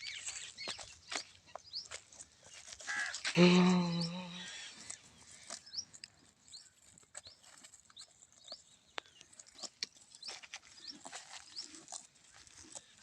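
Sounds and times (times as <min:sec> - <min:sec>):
cow chewing grass: 0:00.0 - 0:03.4, 0:04.4 - 0:13.0.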